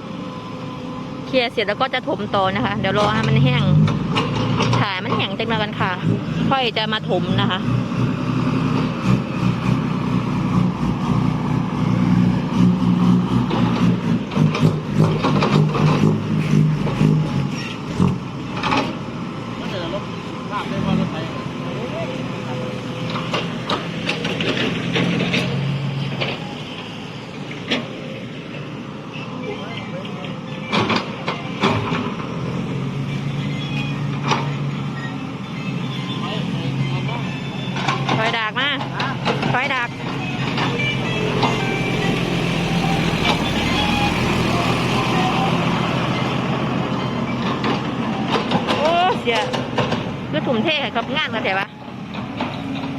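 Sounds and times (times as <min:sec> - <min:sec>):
large engine running: 0:00.0 - 0:52.9.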